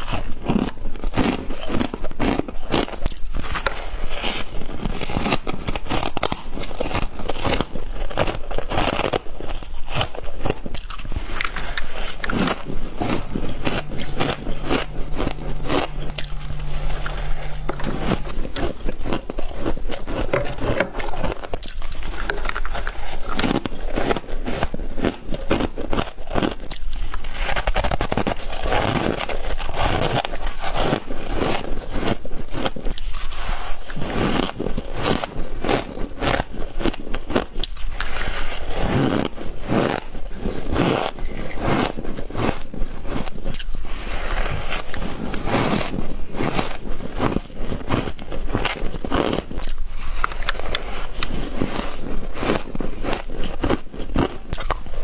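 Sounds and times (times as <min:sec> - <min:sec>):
crunching of frost being chewed: 0:00.0 - 0:55.0.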